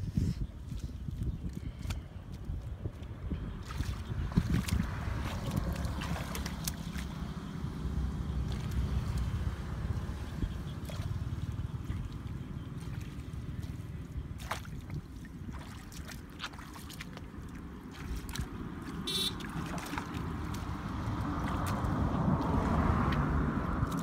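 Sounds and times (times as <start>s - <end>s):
wind rumbling on microphone: 0.0s - 24.0s
water trickling and gurgling: 1.1s - 24.0s
sharp splashes: 3.6s - 24.0s.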